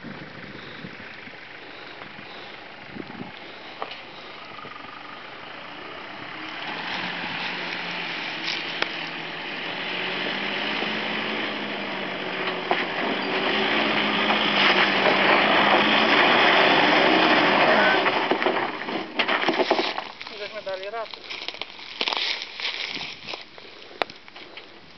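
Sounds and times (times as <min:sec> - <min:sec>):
truck engine pulling uphill: 0:00.0 - 0:24.9.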